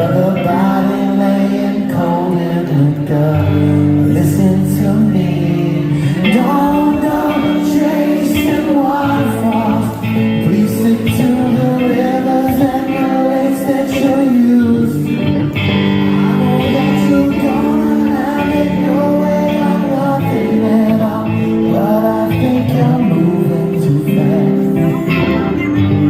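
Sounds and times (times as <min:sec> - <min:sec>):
live band guitar music: 0:00.0 - 0:26.0
person singing: 0:00.0 - 0:26.0.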